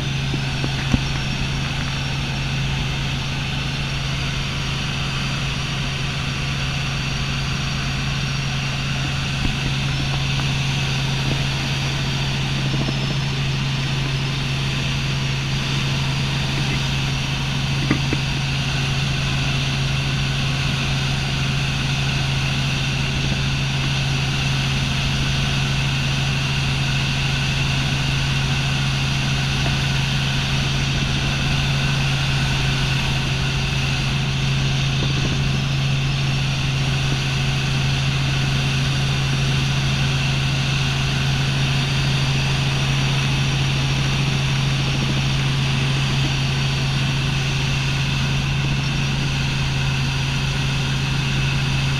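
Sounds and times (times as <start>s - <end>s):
helicopter engine and rotors droning: 0.0s - 51.9s.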